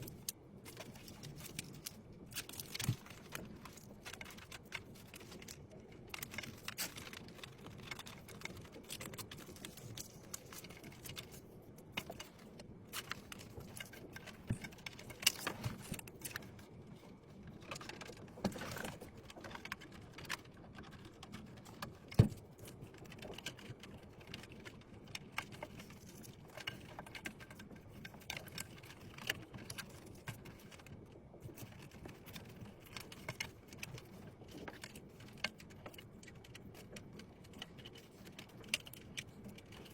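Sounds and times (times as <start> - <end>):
computer parts clicking and rattling: 0.0 - 39.9.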